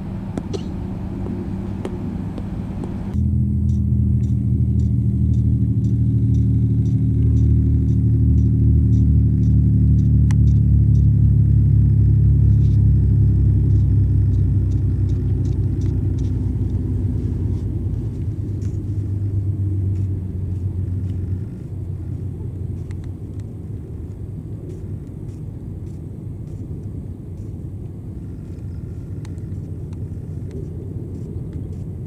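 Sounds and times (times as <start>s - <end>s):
ferry engines droning: 0.0s - 32.0s
low rumble: 0.0s - 32.0s.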